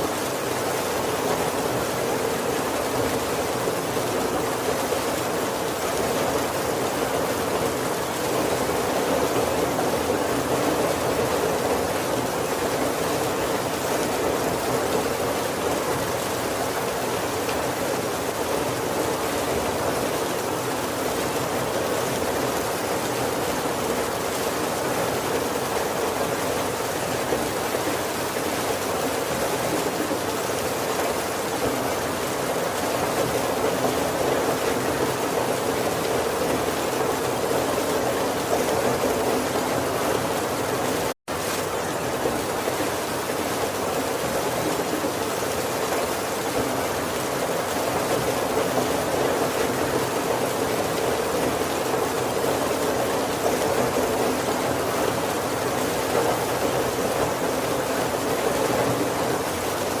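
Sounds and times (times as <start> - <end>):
heavy rain on a wooden roof: 0.0 - 60.0.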